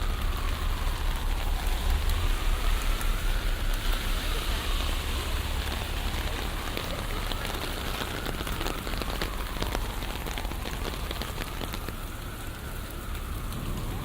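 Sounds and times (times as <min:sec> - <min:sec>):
low city rumble: 0:00.0 - 0:14.0
raindrops ticking: 0:00.0 - 0:14.0.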